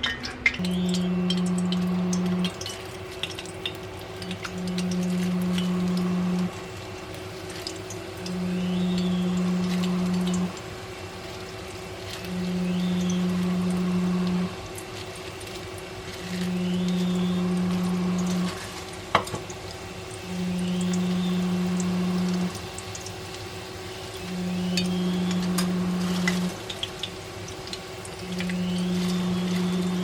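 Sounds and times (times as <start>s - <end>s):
low machine hum switching on and off: 0.0s - 30.0s.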